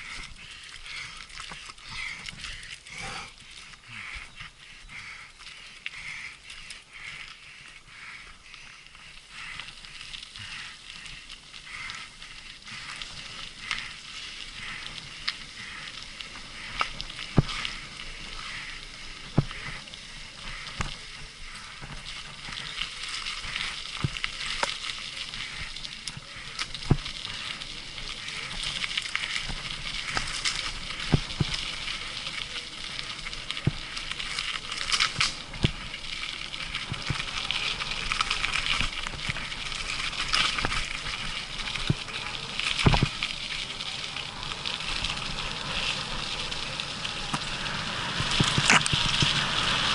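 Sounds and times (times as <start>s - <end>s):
bike tyres hissing on dirt: 0.0s - 49.9s.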